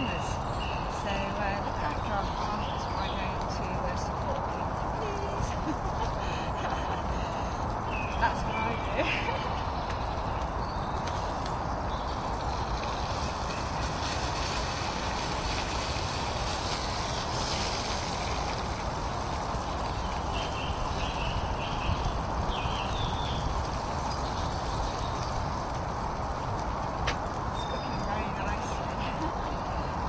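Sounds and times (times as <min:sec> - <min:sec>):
camping stove burner hissing: 0:00.0 - 0:30.0.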